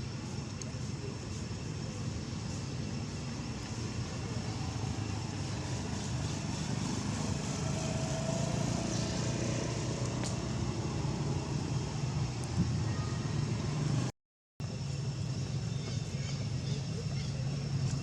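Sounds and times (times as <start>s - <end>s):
faint hiss: 0.0s - 18.0s.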